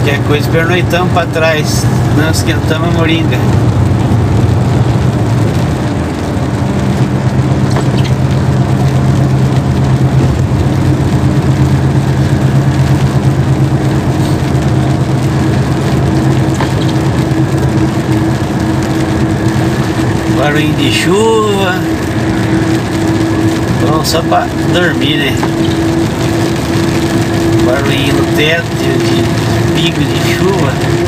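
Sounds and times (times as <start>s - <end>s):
rain pattering on cab roof: 0.0s - 31.0s
truck engine humming: 0.0s - 31.0s
tyres hissing on wet road: 0.0s - 31.0s.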